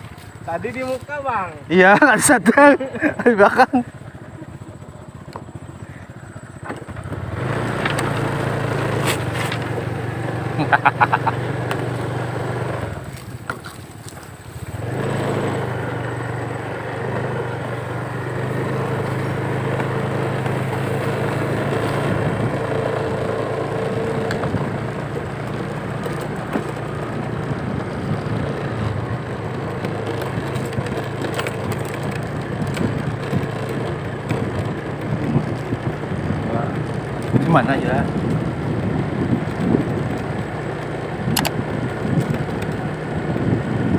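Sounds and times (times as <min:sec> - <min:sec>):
small engine running: 0:00.0 - 0:43.9
rough crackling noise: 0:06.6 - 0:43.9.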